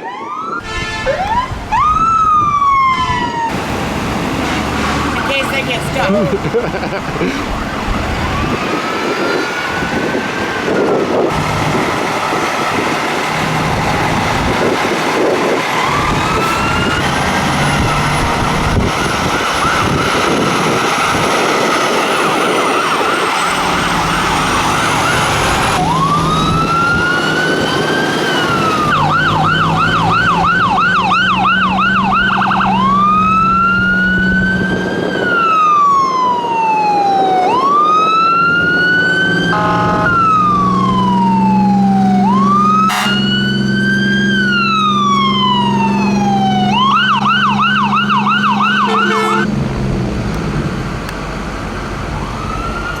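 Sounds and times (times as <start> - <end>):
emergency sirens wailing and yelping: 0.0 - 49.5, 50.9 - 53.0
heavy vehicle engines humming: 0.6 - 53.0.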